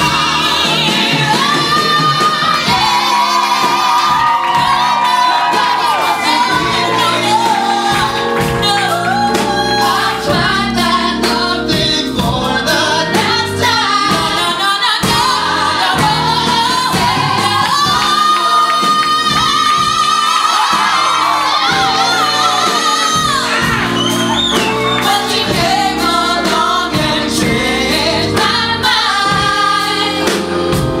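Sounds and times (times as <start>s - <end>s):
keyboard and electric guitar band: 0.0s - 31.0s
voices singing in harmony: 0.0s - 31.0s.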